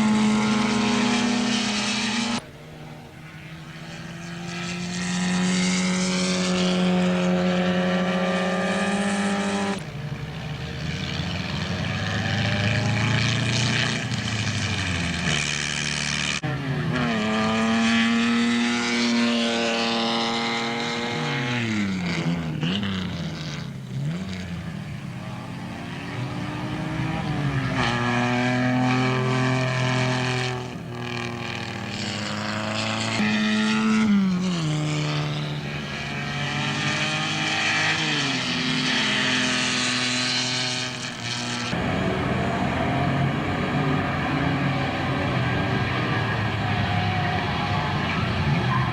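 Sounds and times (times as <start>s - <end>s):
racing car engines: 0.0s - 48.9s.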